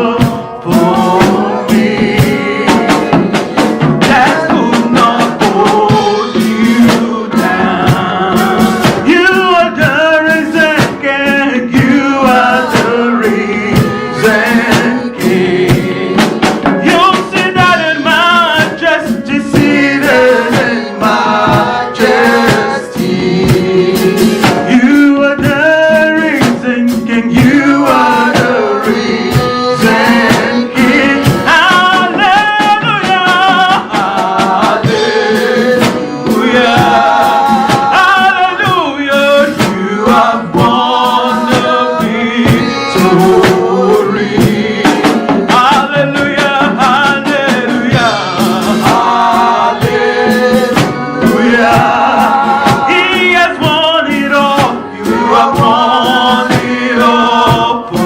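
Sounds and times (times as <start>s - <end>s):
instrumental accompaniment: 0.0s - 58.0s
singing with vibrato: 0.0s - 58.0s
steady drum beat: 0.0s - 58.0s.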